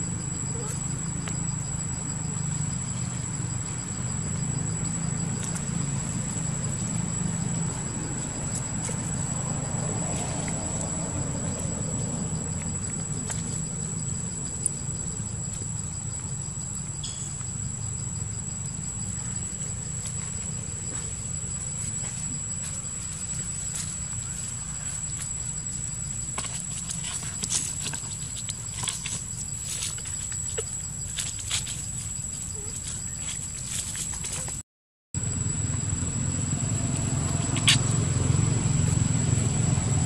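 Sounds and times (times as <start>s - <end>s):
insects droning: 0.0s - 34.6s, 35.2s - 40.0s.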